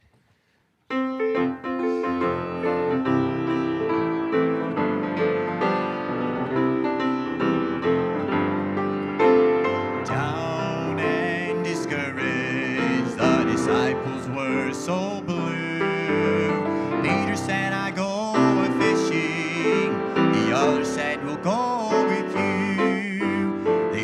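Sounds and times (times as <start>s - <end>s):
gospel piano chords and melody: 0.8s - 24.0s.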